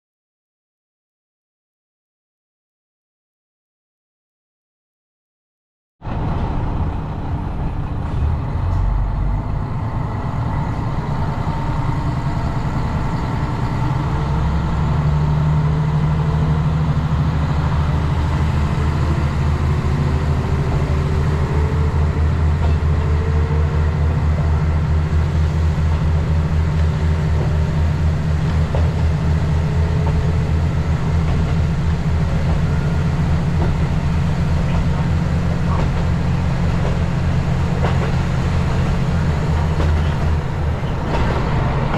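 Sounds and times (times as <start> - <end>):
diesel train engine humming: 6.0 - 41.9.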